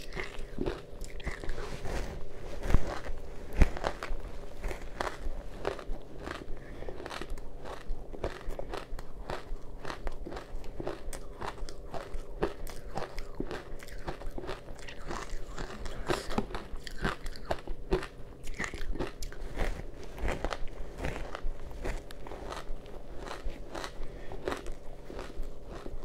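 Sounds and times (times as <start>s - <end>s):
ice crunching as chewed: 0.0s - 26.0s.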